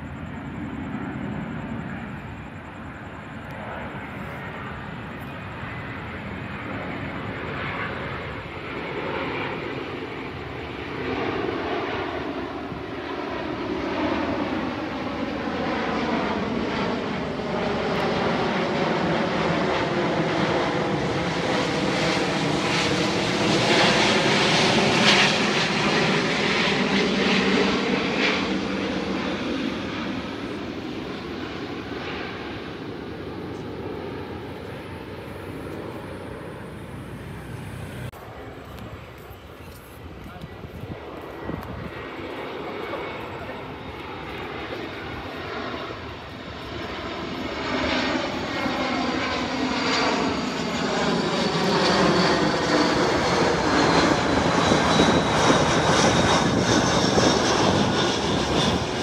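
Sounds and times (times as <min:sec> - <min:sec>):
airliner jet engines passing overhead: 0:00.0 - 0:59.0.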